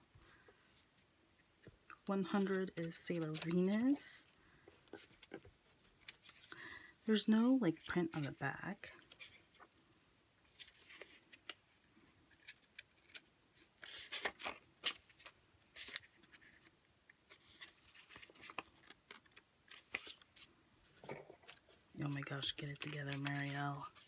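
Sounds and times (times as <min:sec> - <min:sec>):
paper notes rustling: 0:00.6 - 0:16.7, 0:17.3 - 0:24.0.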